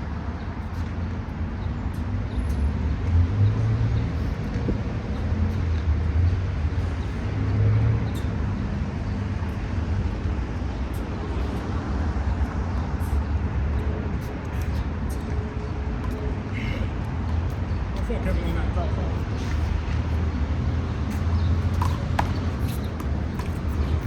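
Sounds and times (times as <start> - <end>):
low rumble of road traffic: 0.0 - 24.0.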